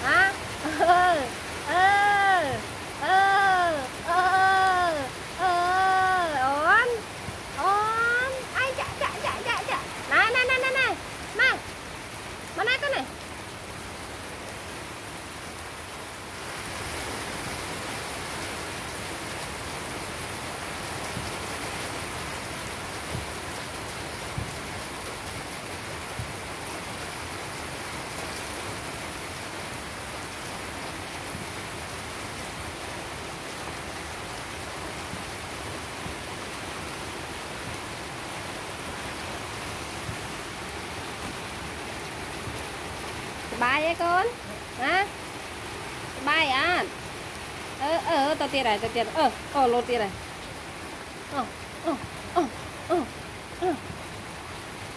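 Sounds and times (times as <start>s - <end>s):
heavy rain on concrete: 0.0s - 54.9s.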